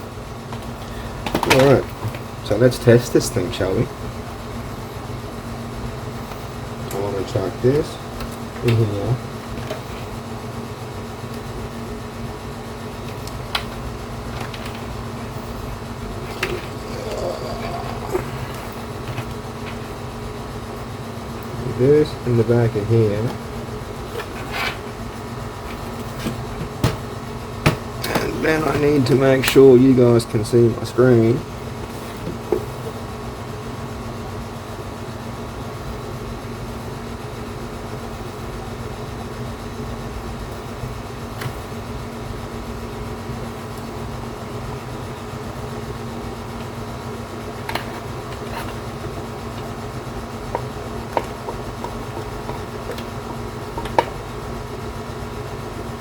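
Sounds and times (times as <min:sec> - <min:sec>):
mechanical hum: 0:00.0 - 0:56.0.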